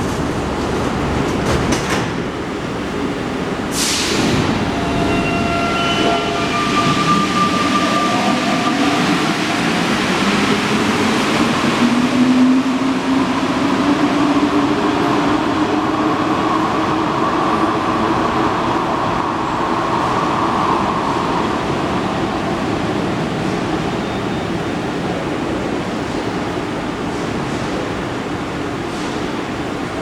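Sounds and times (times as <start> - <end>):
metro train rumbling: 0.0 - 30.0.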